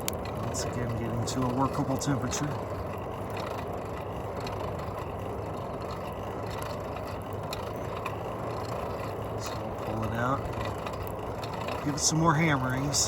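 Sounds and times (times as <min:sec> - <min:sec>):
faint crackles of burning wood: 0:00.0 - 0:13.0
forge fire rushing: 0:00.0 - 0:13.0.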